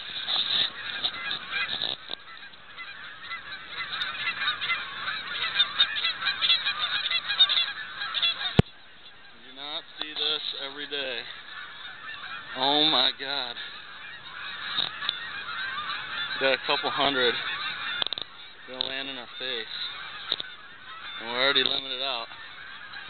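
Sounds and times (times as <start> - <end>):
geese honking: 0.0 - 23.0.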